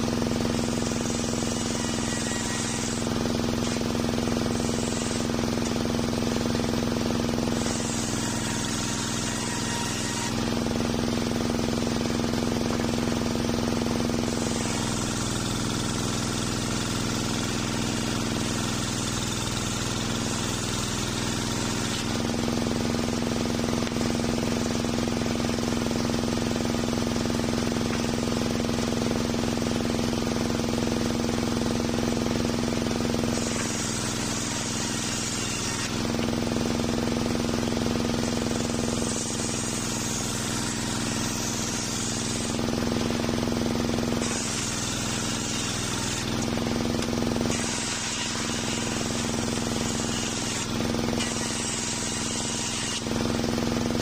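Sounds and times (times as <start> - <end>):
saw blade ripping through wood: 0.0 - 26.0, 32.2 - 54.0
sawmill blade humming: 0.0 - 54.0.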